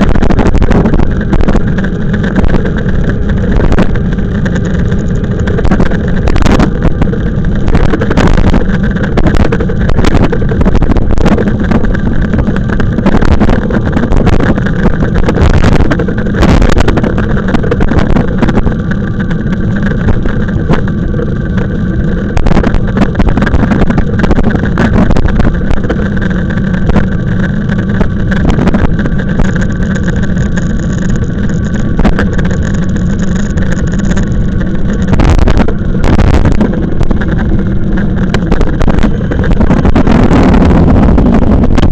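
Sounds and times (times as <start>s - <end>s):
road rumble: 0.0s - 41.9s
wind buffeting microphone: 0.0s - 41.9s.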